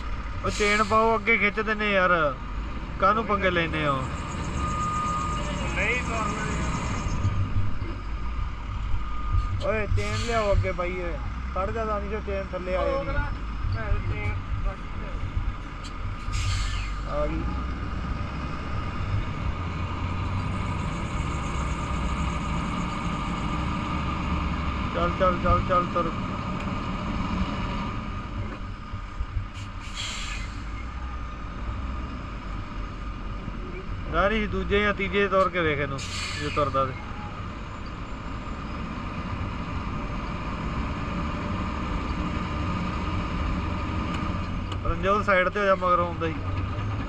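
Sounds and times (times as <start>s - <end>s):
diesel truck engine idling: 0.0s - 47.0s.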